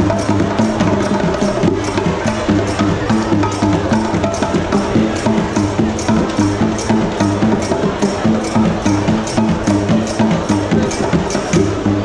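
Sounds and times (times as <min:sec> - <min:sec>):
percussive beat: 0:00.0 - 0:12.0
repeating bass line: 0:00.0 - 0:12.0.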